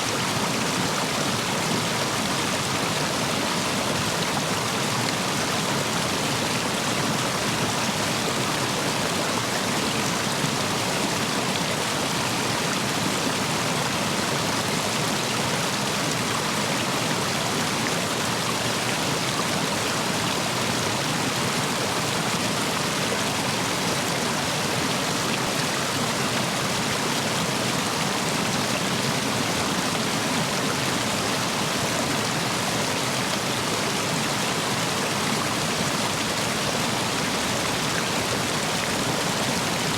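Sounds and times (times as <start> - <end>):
stream water rushing over stones: 0.0 - 39.9.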